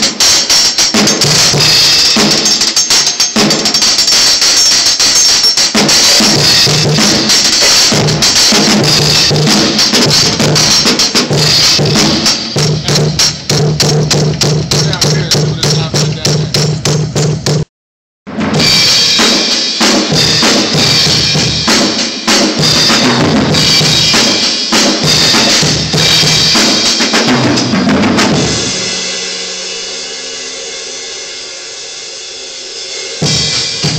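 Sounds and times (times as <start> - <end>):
cymbals crashing: 0.0 - 17.3, 18.4 - 33.9
drum kit playing: 0.0 - 17.7, 18.3 - 33.9
fast drum strokes: 0.0 - 17.7, 18.3 - 33.9.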